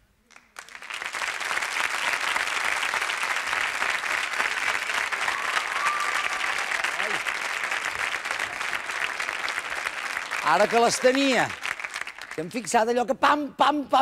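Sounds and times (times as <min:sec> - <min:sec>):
audience applauding: 0:00.3 - 0:12.7.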